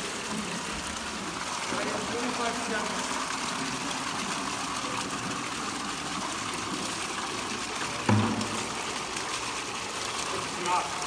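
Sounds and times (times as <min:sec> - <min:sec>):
rushing water: 0:00.0 - 0:11.0
water pump running: 0:00.0 - 0:11.0.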